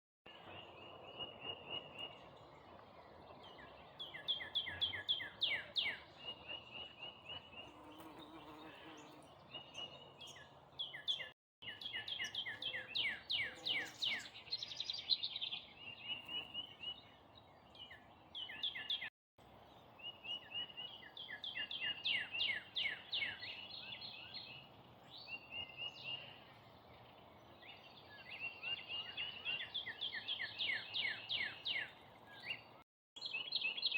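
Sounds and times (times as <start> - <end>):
songbird singing trills: 0.3 - 33.9.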